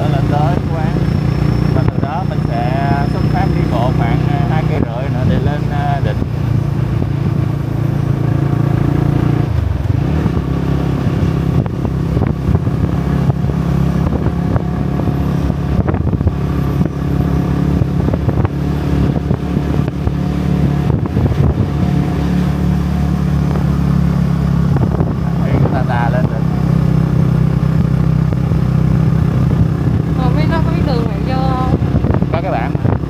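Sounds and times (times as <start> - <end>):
motorbike engine running: 0.0 - 33.0.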